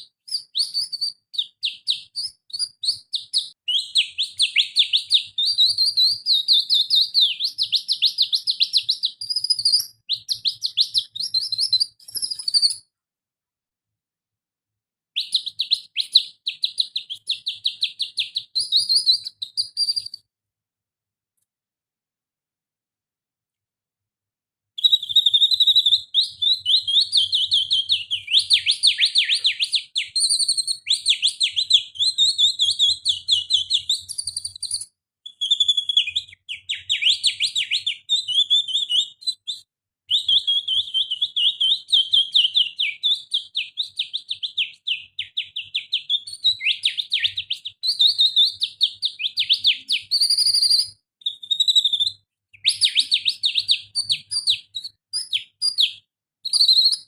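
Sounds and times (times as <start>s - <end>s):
person whistling bird trills: 0.0s - 12.9s, 15.2s - 20.2s, 24.8s - 57.0s.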